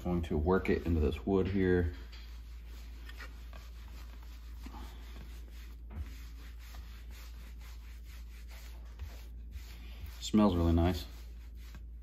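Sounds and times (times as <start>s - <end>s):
low steady hum: 0.0s - 12.0s
pad rubbing wax on wood: 0.0s - 12.0s.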